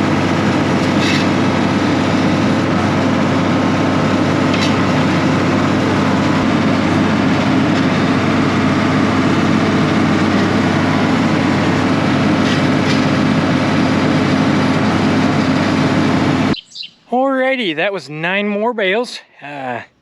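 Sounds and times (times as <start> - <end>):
tractor engine running: 0.0 - 17.6.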